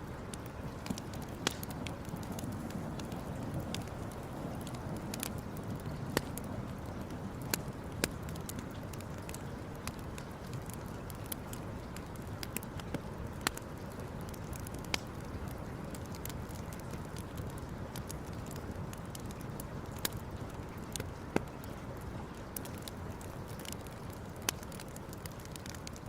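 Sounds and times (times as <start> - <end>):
campfire burning: 0.0 - 26.0
fire crackling and popping: 0.0 - 26.0.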